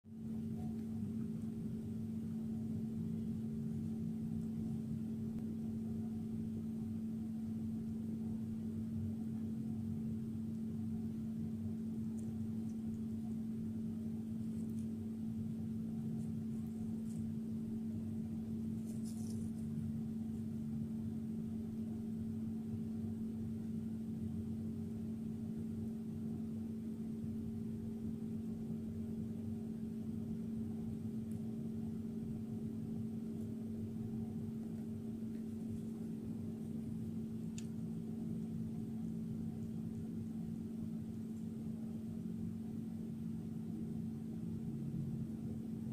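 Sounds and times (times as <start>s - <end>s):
low two-tone hum: 0.1s - 45.9s.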